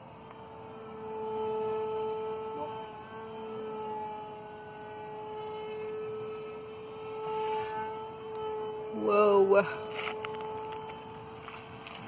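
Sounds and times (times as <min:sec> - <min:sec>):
model aircraft propeller whine: 0:00.0 - 0:12.0.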